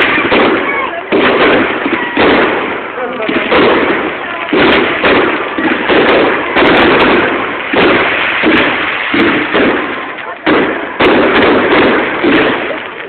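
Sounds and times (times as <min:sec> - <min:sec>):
fireworks bursting overhead: 0:00.0 - 0:13.0.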